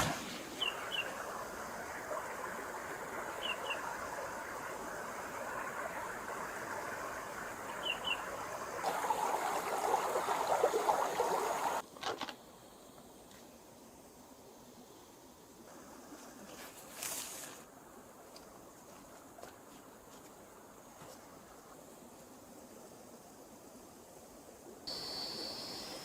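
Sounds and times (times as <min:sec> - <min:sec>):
forest stream flowing: 0:00.0 - 0:26.0.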